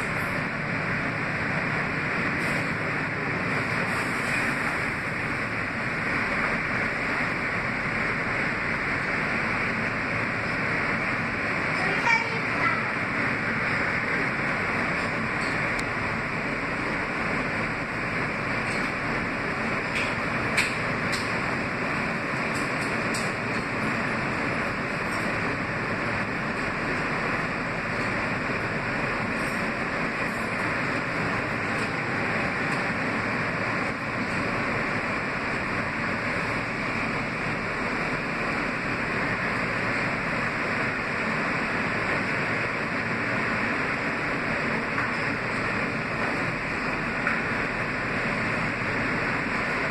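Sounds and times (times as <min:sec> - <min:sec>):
subway train wheel and track noise: 0:00.0 - 0:49.9.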